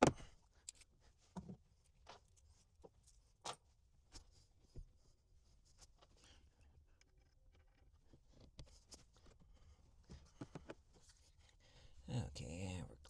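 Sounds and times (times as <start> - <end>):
light clicks and knocks of handling parts: 0.0 - 5.0, 5.7 - 11.6.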